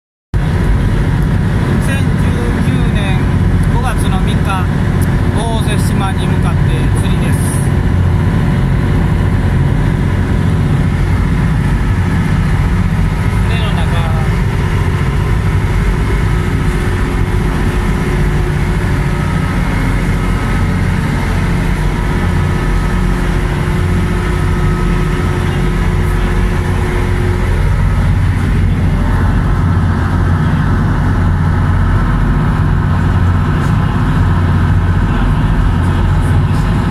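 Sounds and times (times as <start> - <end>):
ferry engines droning: 0.4 - 36.9
higher steady hum: 0.4 - 36.9
wind: 0.4 - 36.9.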